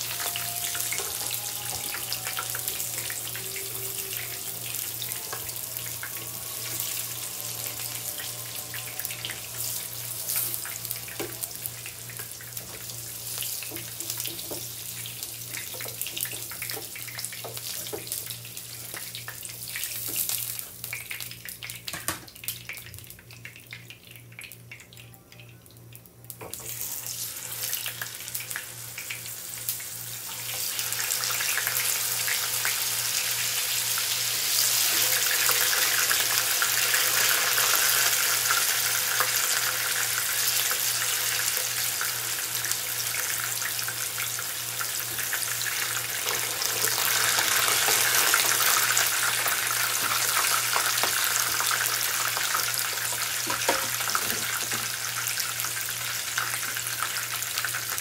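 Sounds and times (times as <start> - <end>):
tofu sizzling in hot oil: 0.0 - 25.0, 26.3 - 58.0.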